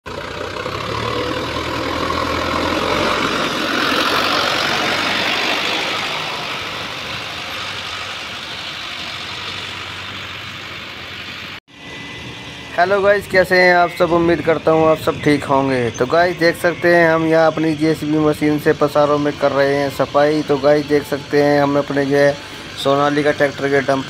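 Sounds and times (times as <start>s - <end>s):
diesel engines running: 0.0s - 24.0s.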